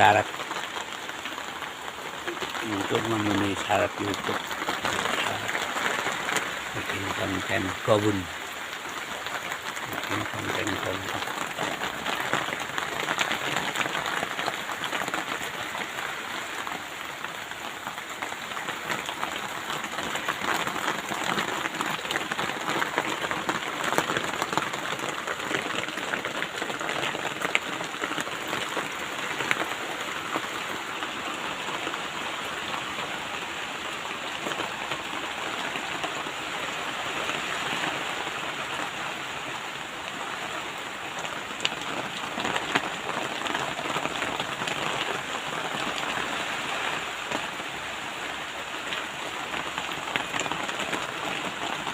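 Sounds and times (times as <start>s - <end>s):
raindrops ticking: 0.0s - 51.9s
steady rain falling: 0.0s - 51.9s.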